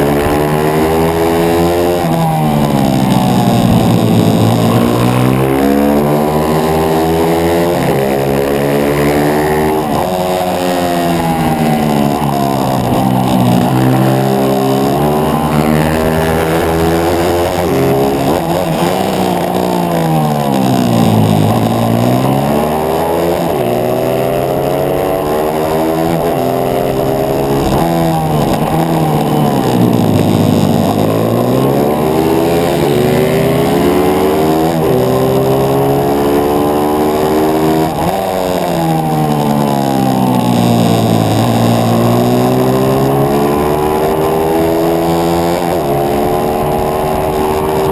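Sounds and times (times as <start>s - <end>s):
pit bike engine revving: 0.0s - 47.9s.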